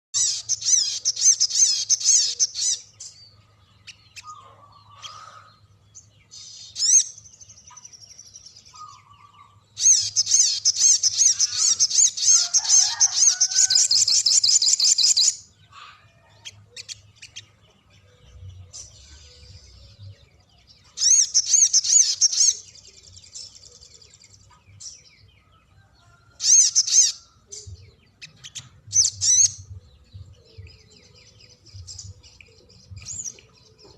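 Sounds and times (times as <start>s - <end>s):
bird singing rolling trills: 0.2s - 33.9s.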